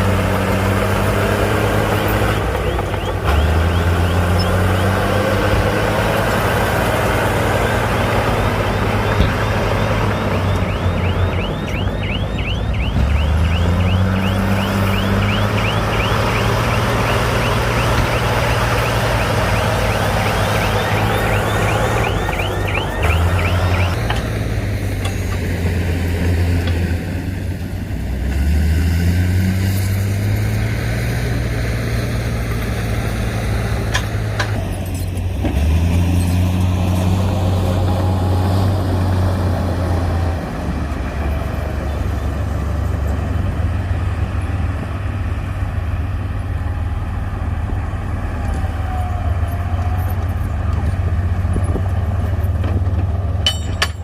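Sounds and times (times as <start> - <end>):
heavy diesel engine revving: 0.0 - 53.4.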